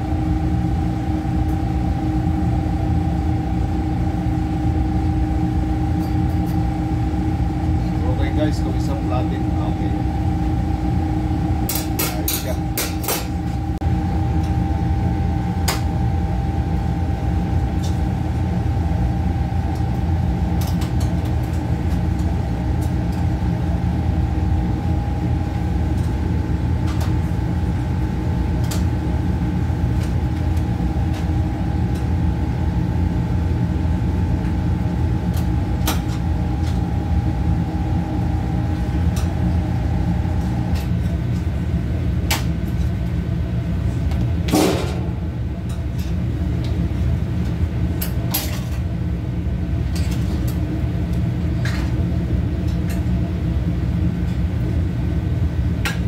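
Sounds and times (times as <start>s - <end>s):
kitchen machinery hum: 0.0s - 56.0s.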